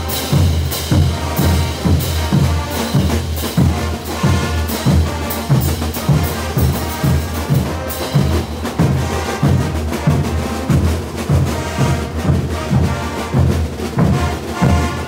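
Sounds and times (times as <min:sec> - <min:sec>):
drums pounding: 0:00.0 - 0:15.0
street brass band playing: 0:00.0 - 0:15.0.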